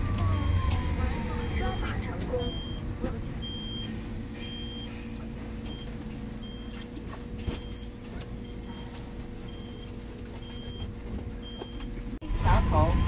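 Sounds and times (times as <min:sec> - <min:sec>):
bus hum and low rumble: 0:00.0 - 0:13.0.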